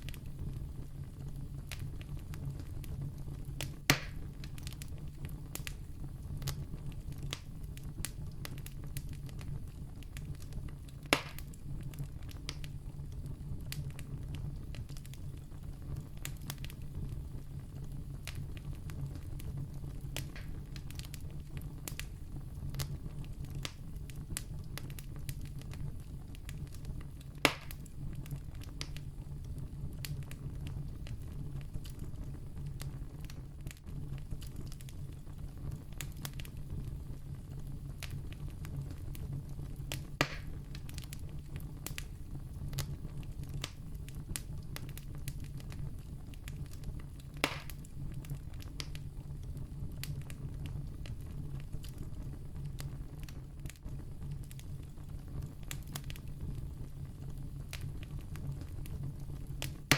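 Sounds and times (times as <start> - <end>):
sharp fire pops: 0.0 - 59.9
wood campfire crackling: 0.0 - 59.9.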